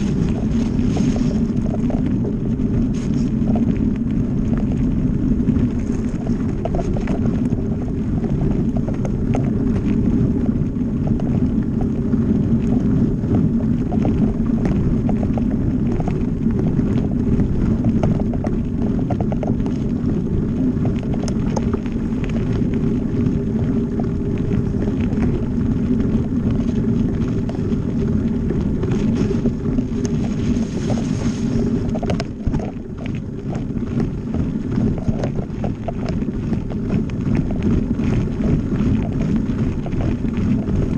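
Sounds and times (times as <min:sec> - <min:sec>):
bike clicks and rattles: 0:00.0 - 0:40.9
tyres rolling on gravel: 0:00.0 - 0:40.9
wind on microphone: 0:00.0 - 0:40.9.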